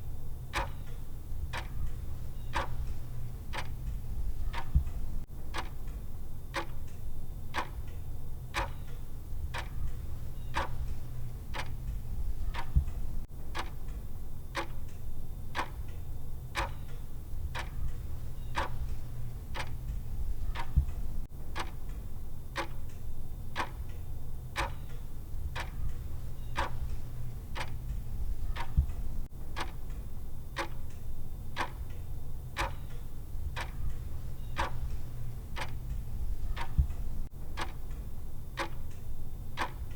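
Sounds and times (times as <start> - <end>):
steady low hum: 0.0 - 39.9
clock ticking: 0.5 - 14.0, 14.6 - 16.0, 16.6 - 22.0, 22.6 - 24.0, 24.6 - 39.9.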